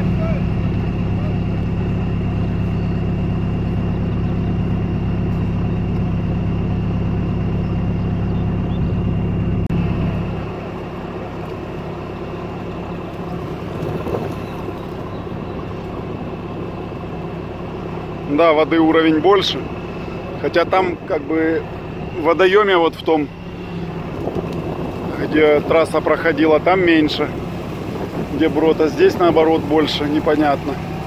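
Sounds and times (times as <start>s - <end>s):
distant engine rumbling: 0.0s - 31.0s
engine running close by: 0.0s - 31.0s.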